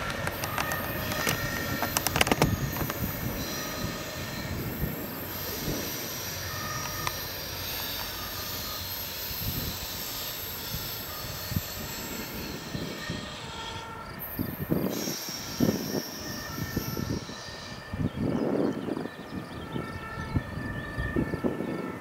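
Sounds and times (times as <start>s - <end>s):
distant train rumble: 0.0s - 22.0s.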